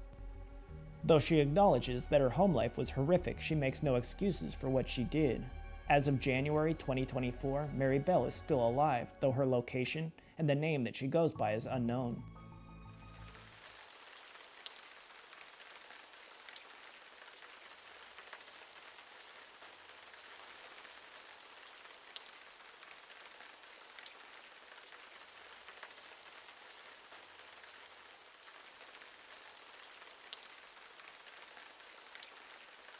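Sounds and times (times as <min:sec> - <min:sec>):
steady rain hiss: 0:00.0 - 0:12.3, 0:13.0 - 0:32.9.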